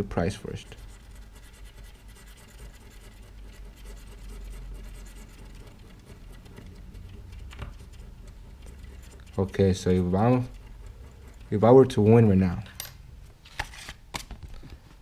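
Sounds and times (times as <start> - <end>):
coin scratching a card: 0.2 - 12.4.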